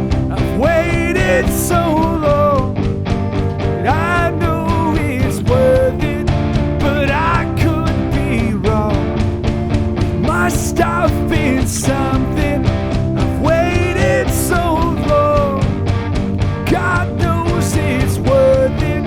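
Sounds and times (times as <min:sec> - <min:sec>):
rock band playing: 0:00.0 - 0:19.0
sliding lead melody: 0:00.0 - 0:19.0.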